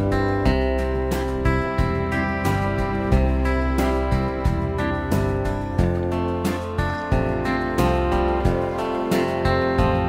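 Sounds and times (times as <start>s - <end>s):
guitar chords strummed: 0.0s - 10.0s.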